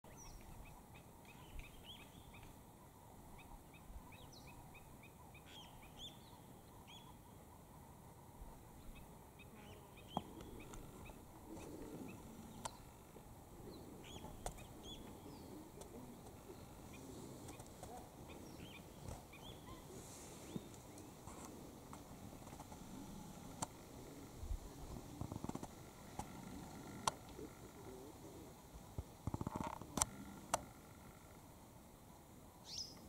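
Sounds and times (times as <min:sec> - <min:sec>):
birds chirping: 0:00.1 - 0:33.0.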